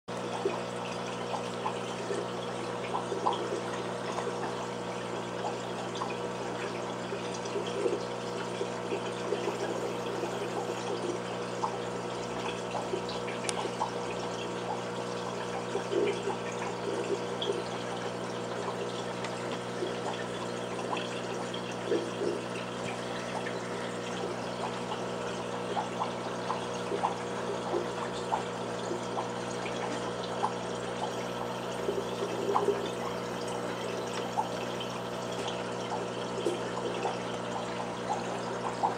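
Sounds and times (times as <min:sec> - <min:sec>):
aquarium filter humming: 0:00.1 - 0:38.9
water trickling and gurgling: 0:00.1 - 0:38.9.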